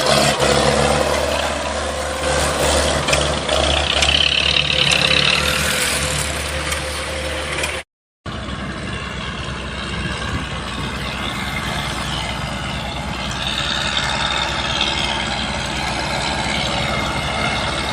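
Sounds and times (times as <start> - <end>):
engine idling: 0.0 - 17.9.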